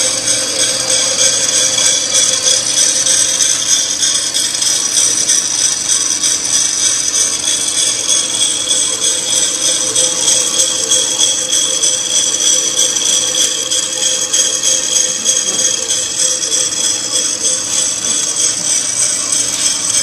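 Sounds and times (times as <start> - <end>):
coffee roaster mechanical whir: 0.0 - 20.0.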